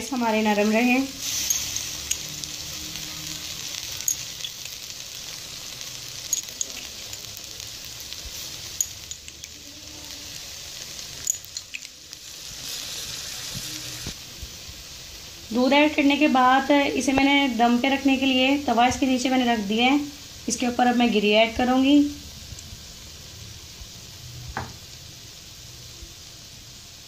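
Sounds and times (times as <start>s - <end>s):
rice sizzling in a steel pot: 0.0s - 27.0s.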